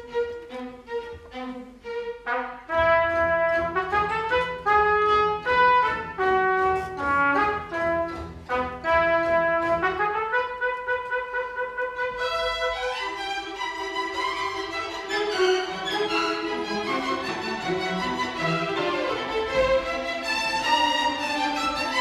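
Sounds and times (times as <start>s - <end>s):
string orchestra accompaniment: 0.0s - 22.0s
solo trumpet melody: 2.2s - 22.0s.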